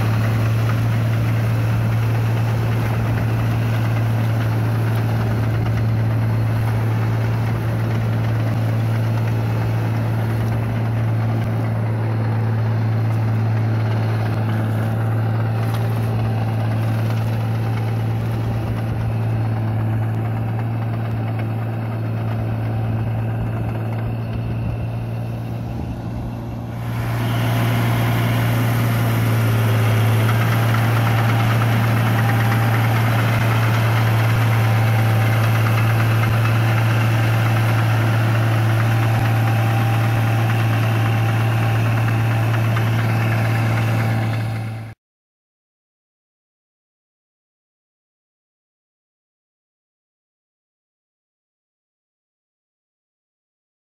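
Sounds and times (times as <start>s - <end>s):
tractor engine running under load: 0.0s - 45.0s.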